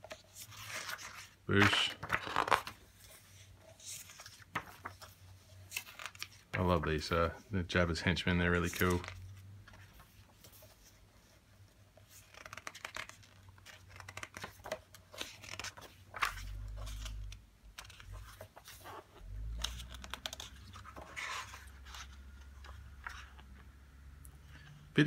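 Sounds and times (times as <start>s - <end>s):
book pages turning: 0.0s - 7.0s, 8.5s - 25.0s.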